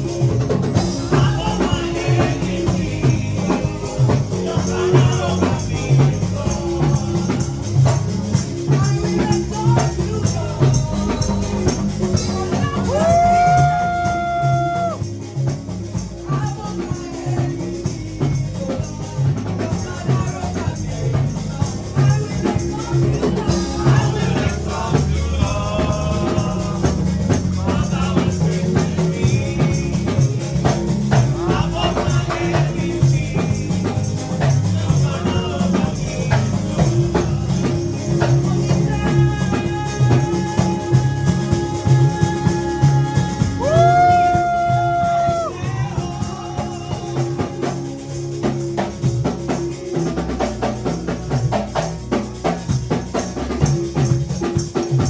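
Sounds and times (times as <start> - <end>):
person singing: 0.0 - 15.1, 16.2 - 47.9
shaker percussion: 0.0 - 55.0
worship music with steady beat: 0.0 - 55.0.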